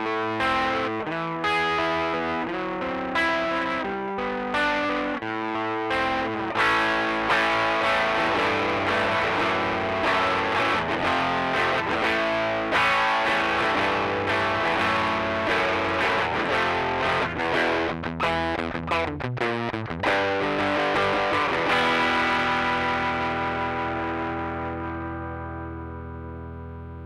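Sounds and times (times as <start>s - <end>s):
overdriven electric guitar chords: 0.0s - 27.0s.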